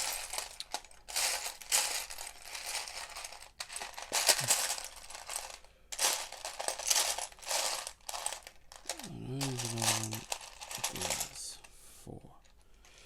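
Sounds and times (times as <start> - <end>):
plastic pieces rattling: 0.0 - 11.5.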